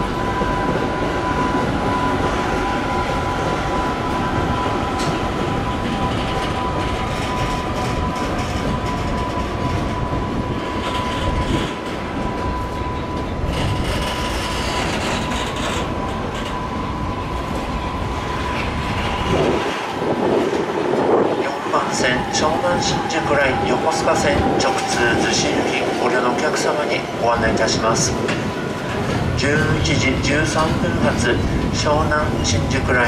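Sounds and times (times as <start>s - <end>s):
train wagons rumbling and clattering: 0.0s - 33.0s.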